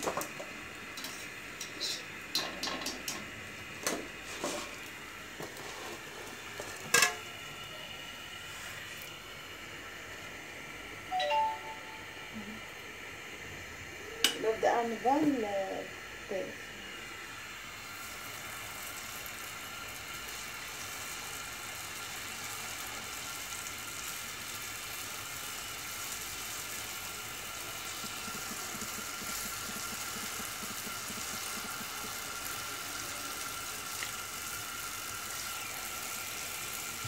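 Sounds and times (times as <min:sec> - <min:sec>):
dough deep-frying in oil: 0:00.0 - 0:11.1, 0:12.7 - 0:37.0.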